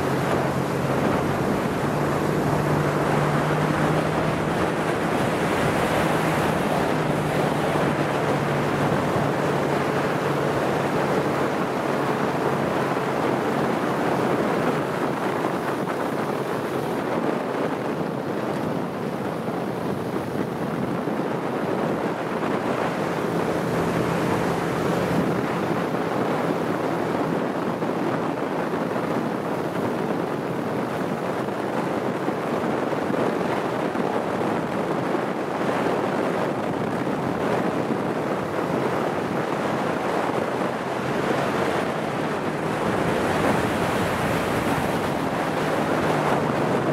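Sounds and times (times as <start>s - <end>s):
boat engine low hum: 0.0s - 46.9s
wind and water rushing: 0.0s - 46.9s.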